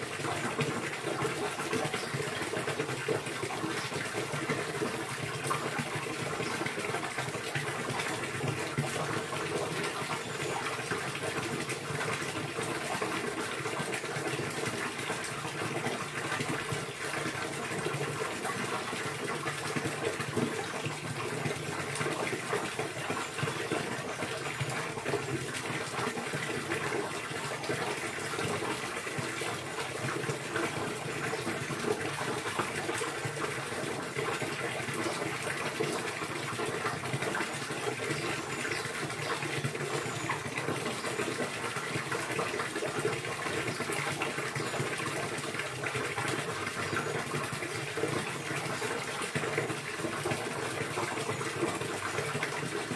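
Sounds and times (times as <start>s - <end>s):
flowing splashing water: 0.0s - 52.9s.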